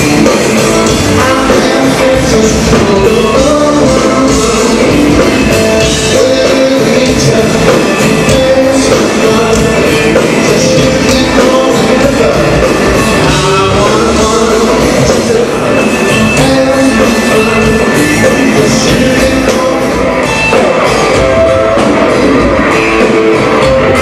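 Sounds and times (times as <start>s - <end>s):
blues-rock band music: 0.0s - 24.0s.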